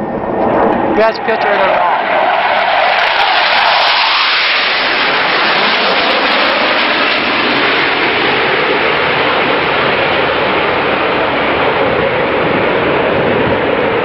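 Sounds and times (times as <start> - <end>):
jet aircraft flying over: 0.0 - 14.0.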